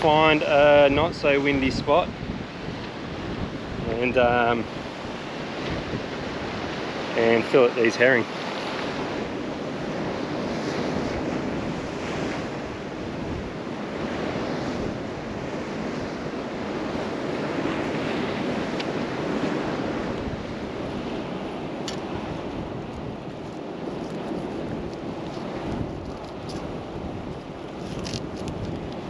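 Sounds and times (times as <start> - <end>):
ocean surf washing against rocks: 0.0 - 29.0
wind buffeting microphone: 0.0 - 29.0.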